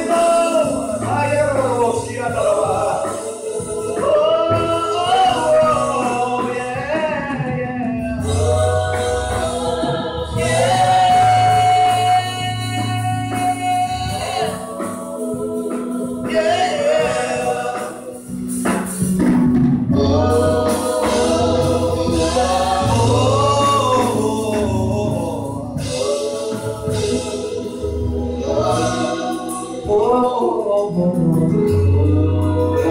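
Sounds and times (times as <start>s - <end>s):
man and women singing gospel: 0.0s - 32.9s
low bass notes: 0.6s - 3.0s, 3.7s - 14.4s, 18.3s - 32.9s.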